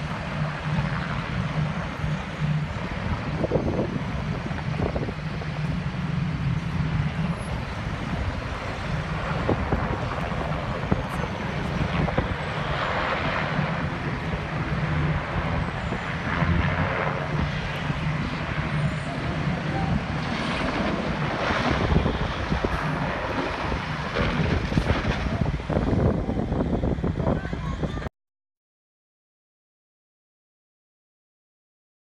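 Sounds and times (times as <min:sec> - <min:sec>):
distant helicopter rotor chopping: 0:00.0 - 0:28.1
turbine hum: 0:00.0 - 0:28.1.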